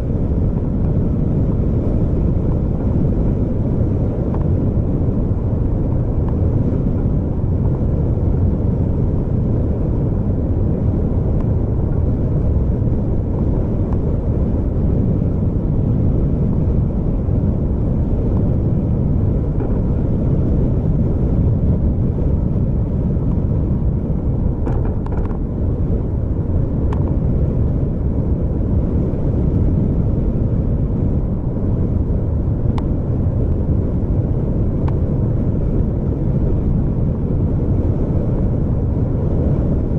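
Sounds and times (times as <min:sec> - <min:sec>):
vehicle road rumble: 0:00.0 - 0:39.9.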